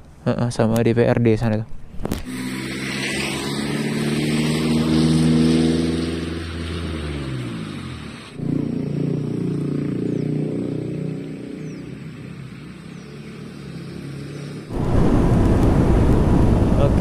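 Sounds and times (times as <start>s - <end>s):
wind and tyre noise: 0.0s - 17.0s
motorcycle engine revving: 2.1s - 17.0s.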